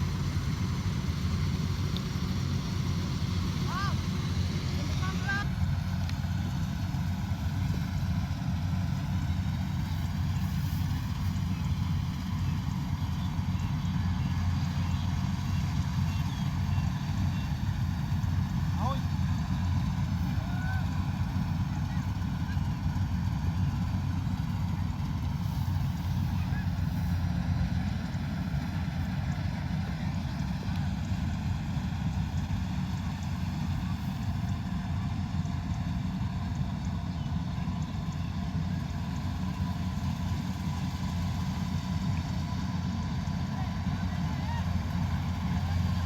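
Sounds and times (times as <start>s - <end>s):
faint steady whine: 0.0s - 46.0s
harvester engine rumbling: 0.0s - 46.0s.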